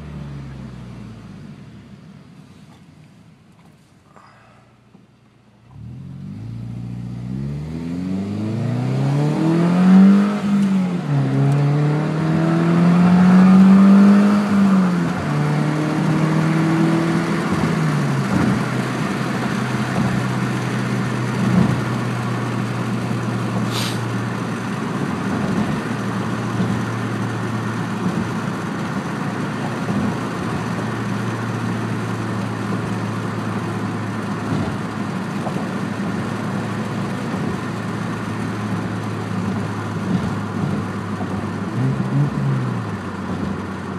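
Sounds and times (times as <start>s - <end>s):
car engine revving: 5.6s - 43.9s.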